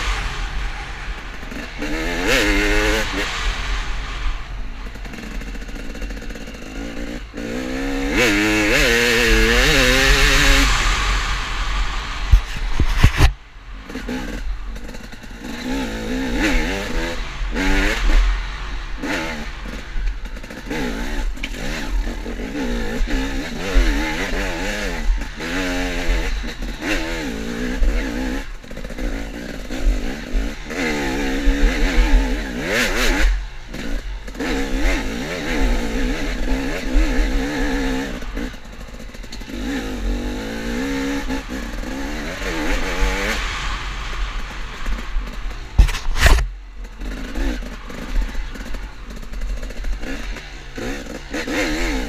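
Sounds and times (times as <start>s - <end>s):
dirt bike engine revving: 0.0s - 52.0s
low rumble of wind: 0.0s - 52.0s.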